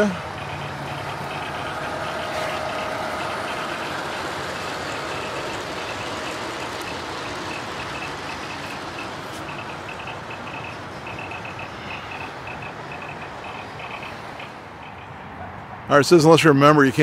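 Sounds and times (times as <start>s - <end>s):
model train wheels rumbling on rail: 0.0s - 15.1s
faint motor whine: 0.0s - 15.2s.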